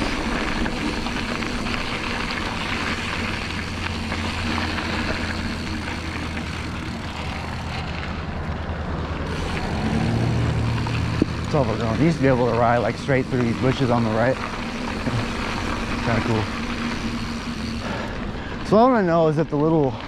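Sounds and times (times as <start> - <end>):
bike tyres on dirt trail: 0.0 - 20.0.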